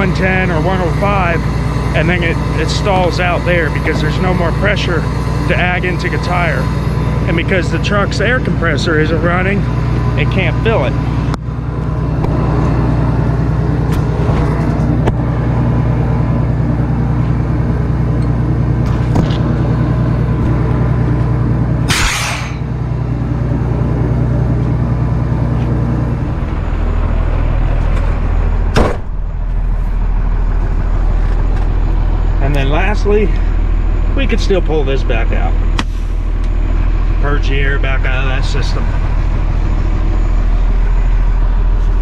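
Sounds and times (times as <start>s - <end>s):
diesel truck engine idling: 0.0s - 42.0s.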